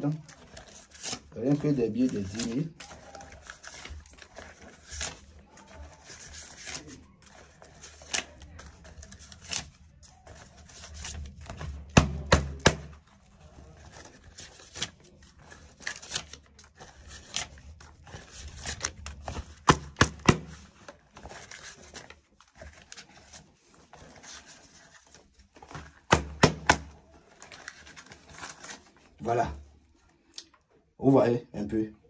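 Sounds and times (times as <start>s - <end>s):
rustling and handling noise: 0.0s - 31.8s.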